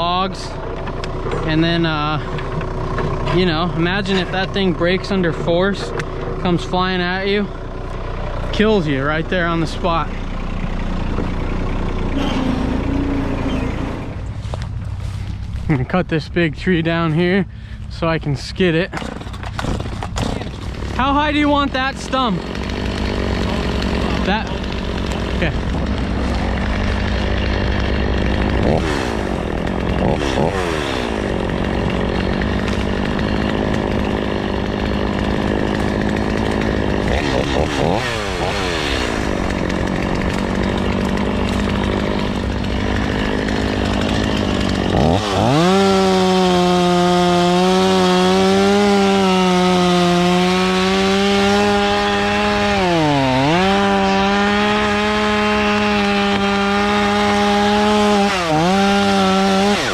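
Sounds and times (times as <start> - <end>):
chainsaw cutting into tree: 0.0 - 14.2, 18.9 - 59.9
chainsaw revving: 0.0 - 14.2, 18.9 - 59.9.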